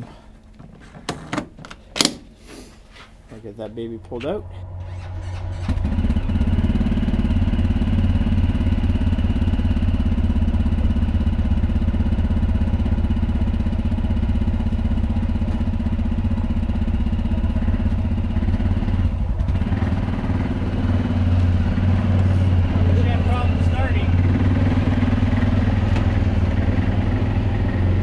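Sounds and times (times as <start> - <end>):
atv engine running: 3.8 - 28.0.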